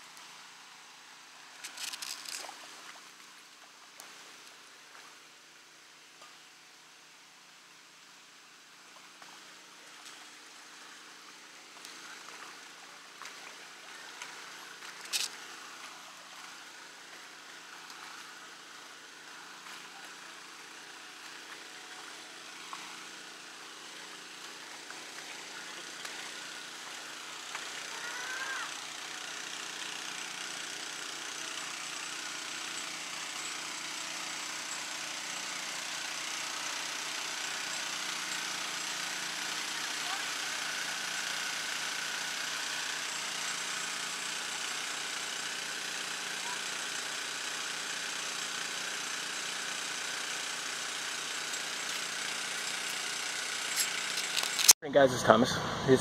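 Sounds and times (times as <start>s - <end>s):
small engine humming: 0.0s - 5.3s, 8.8s - 56.0s.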